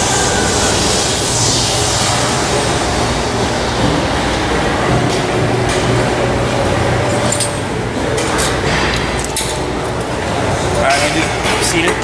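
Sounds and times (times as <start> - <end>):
low hum and rumble: 0.0 - 11.6.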